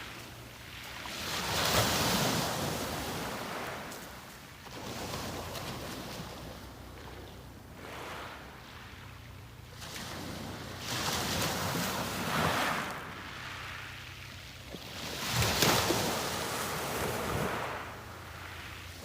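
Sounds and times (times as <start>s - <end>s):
sea waves breaking on beach: 0.0s - 19.0s.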